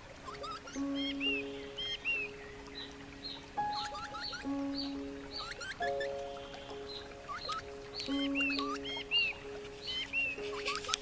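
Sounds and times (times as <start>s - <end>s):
birds chirping: 0.0s - 11.0s
calm music of long held notes: 0.0s - 11.0s.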